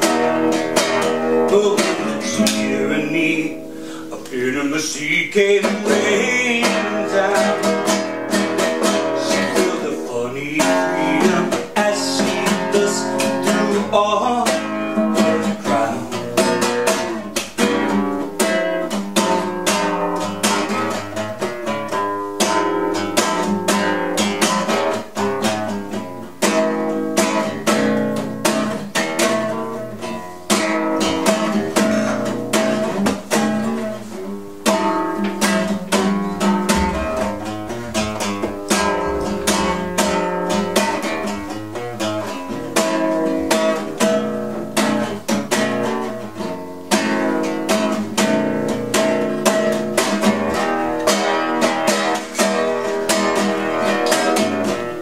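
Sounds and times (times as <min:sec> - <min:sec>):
classical guitar strumming: 0:00.0 - 0:55.0.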